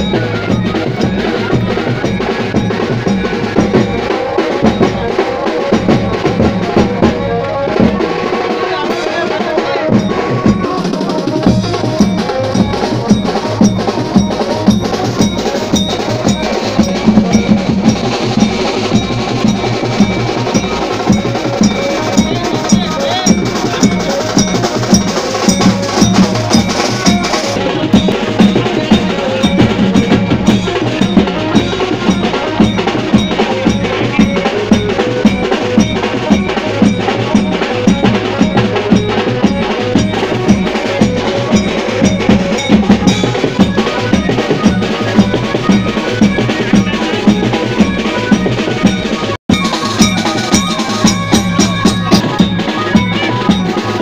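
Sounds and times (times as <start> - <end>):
drums beating fast rhythm: 0.0 - 54.0
ringing metallic strikes: 9.9 - 54.0.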